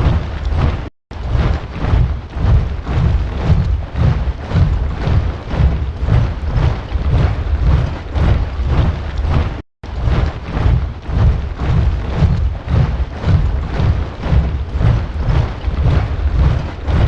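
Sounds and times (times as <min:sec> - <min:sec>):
soldiers marching in step: 0:00.0 - 0:17.0.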